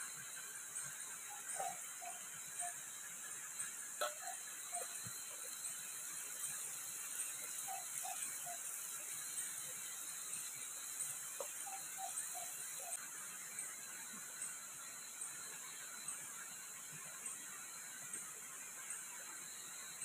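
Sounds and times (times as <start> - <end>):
beans sizzling in a wok: 0.0 - 20.0.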